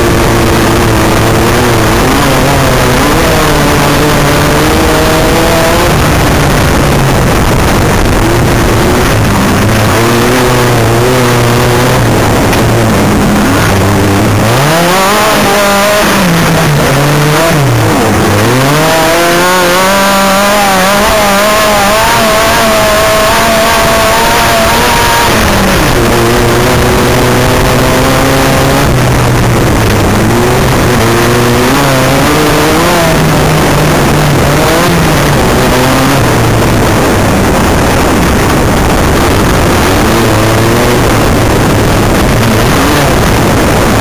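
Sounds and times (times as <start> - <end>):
constant rushing noise: 0.0 - 44.0
racing buggy engine revving: 0.0 - 44.0.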